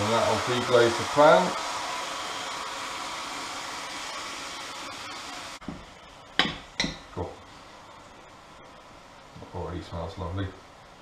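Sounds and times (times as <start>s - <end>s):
wine sizzling in hot pan: 0.0s - 9.7s.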